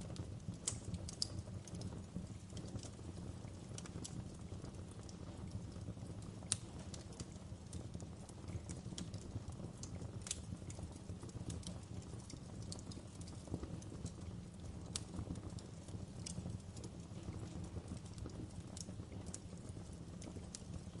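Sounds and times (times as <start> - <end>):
firewood crackling and popping: 0.0 - 21.0
low rumble of flames: 0.0 - 21.0.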